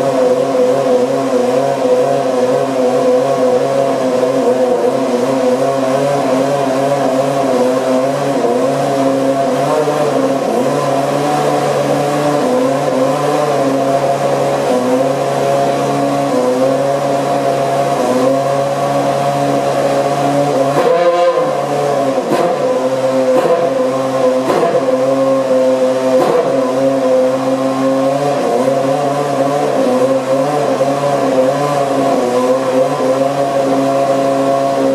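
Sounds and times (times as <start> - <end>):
racing car engine idling: 0.0 - 34.9.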